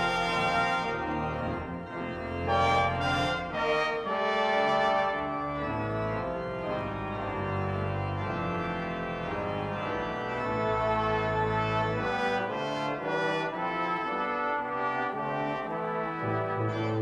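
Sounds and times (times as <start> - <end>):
organ playing full chords: 0.0 - 17.0.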